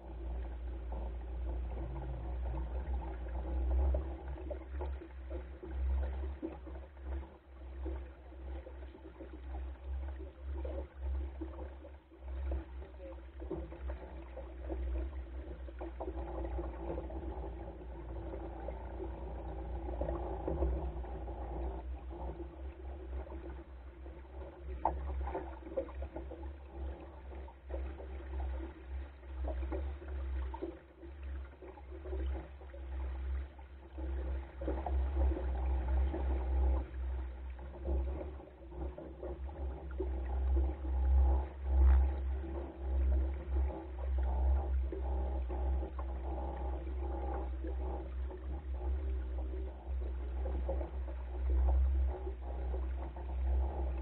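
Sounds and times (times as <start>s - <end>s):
water splashing along hull: 0.0s - 54.0s.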